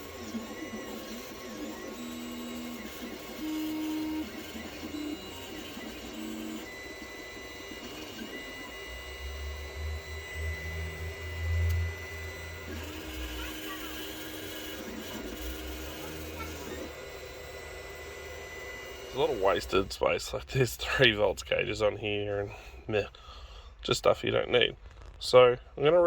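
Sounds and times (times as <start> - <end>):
stepper motors whining: 0.0 - 21.7.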